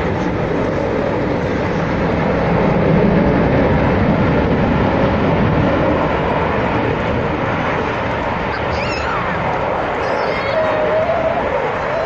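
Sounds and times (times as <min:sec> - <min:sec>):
jet fighter engine roar: 0:00.0 - 0:12.0.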